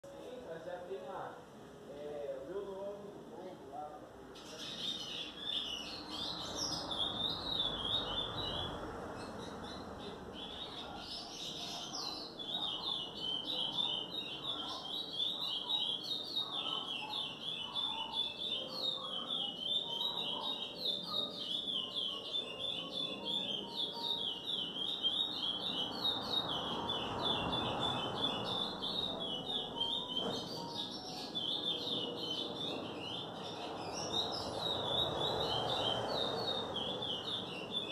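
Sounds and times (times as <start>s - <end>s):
songbird chirping rapidly: 4.3s - 37.9s.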